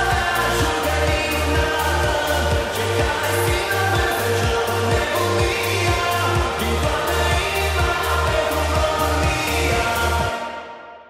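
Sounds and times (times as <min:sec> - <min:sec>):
arena music with thumping beat: 0:00.0 - 0:10.8.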